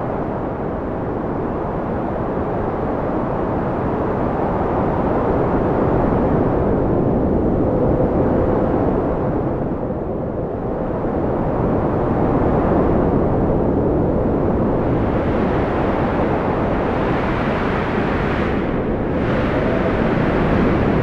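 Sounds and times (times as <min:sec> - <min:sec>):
strong wind blowing: 0:00.0 - 0:21.0.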